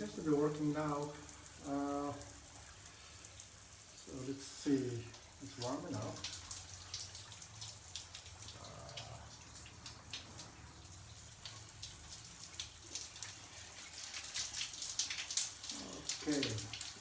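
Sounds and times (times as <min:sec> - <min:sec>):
water drips and splashes: 0:00.0 - 0:17.0
water running through heater: 0:00.0 - 0:17.0.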